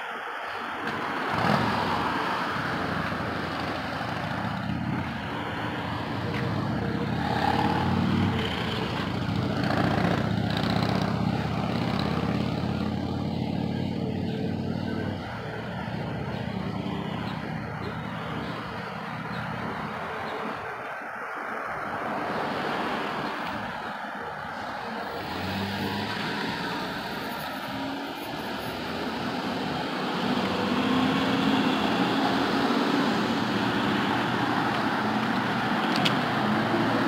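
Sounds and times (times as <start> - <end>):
traffic noise: 0.0 - 37.0.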